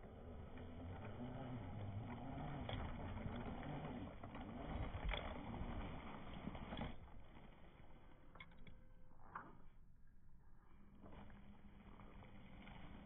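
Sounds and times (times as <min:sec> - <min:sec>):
rc car motor whining: 0:00.0 - 0:08.6, 0:10.9 - 0:13.0.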